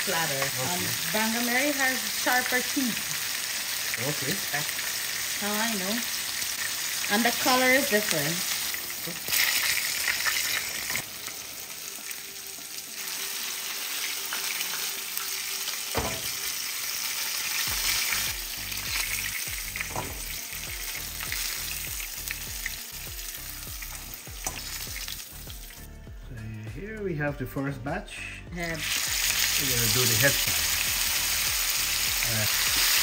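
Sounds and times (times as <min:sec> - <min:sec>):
fish sizzling in oil: 0:00.0 - 0:25.9, 0:28.6 - 0:33.0.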